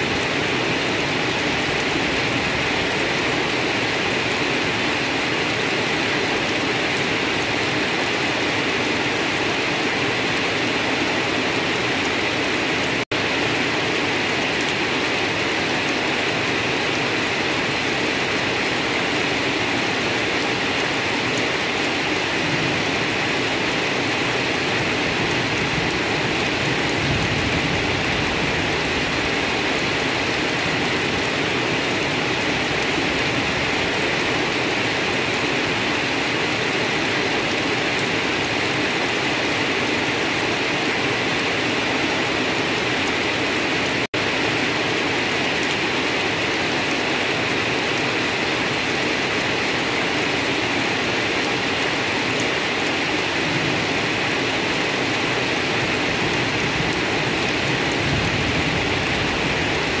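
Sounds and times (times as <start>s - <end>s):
rain falling on wet grass: 0.0s - 60.0s.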